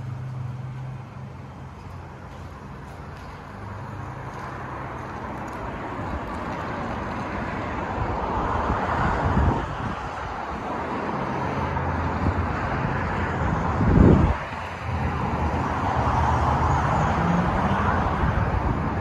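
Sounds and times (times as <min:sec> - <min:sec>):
road traffic rushing: 0:00.0 - 0:19.0.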